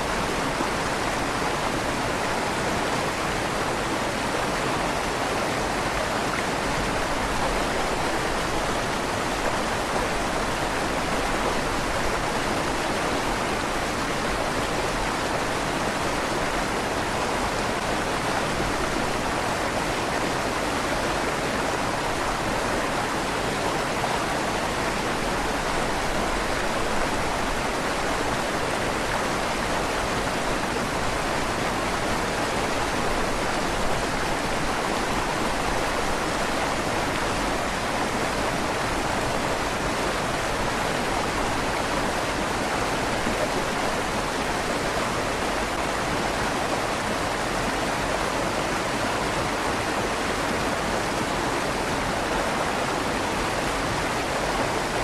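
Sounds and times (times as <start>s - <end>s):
river water rushing under bridge: 0.0s - 55.0s.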